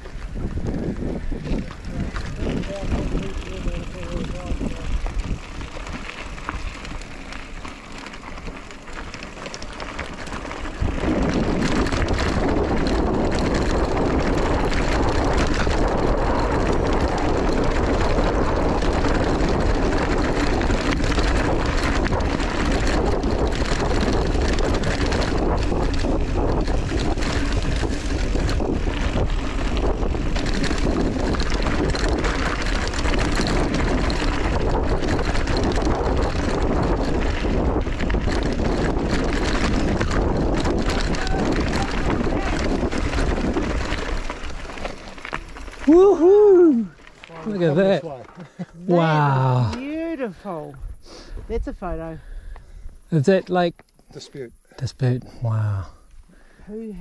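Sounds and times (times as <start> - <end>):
wind rushing over microphone: 0.0 - 8.4, 10.1 - 48.0
bike rolling over gravel: 0.0 - 54.2.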